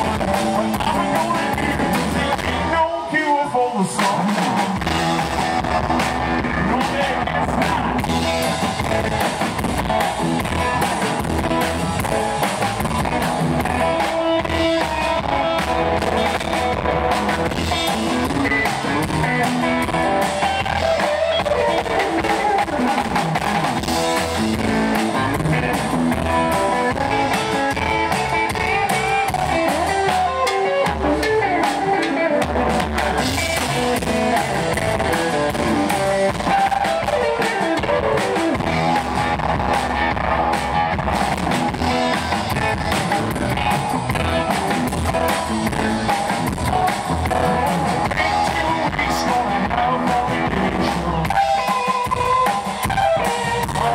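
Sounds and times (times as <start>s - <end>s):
drum kit: 0.0s - 3.0s, 3.8s - 53.9s
electric guitar lead: 0.0s - 53.9s
upright bass: 0.0s - 53.9s.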